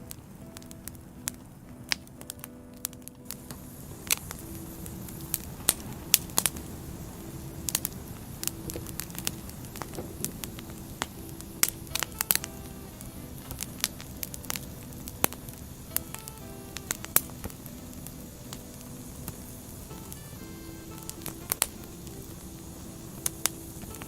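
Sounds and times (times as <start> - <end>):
faint sustained low notes: 0.0 - 24.0
firewood crackling and popping: 0.0 - 24.0
low rumble of fire: 0.0 - 24.0.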